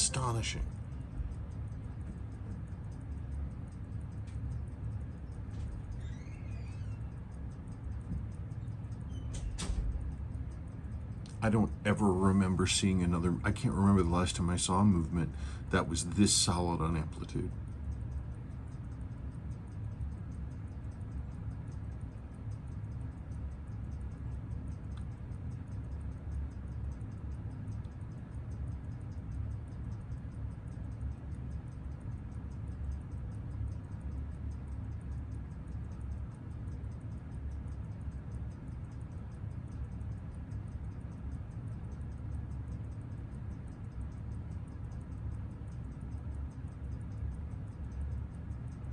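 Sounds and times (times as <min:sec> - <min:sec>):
steady low hum: 0:00.0 - 0:48.9
watch movement ticking: 0:00.0 - 0:48.9.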